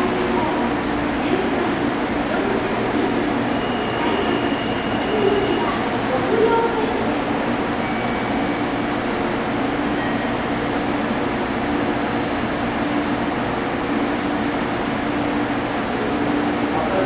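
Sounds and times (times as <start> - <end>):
train rail running noise: 0.0 - 17.0.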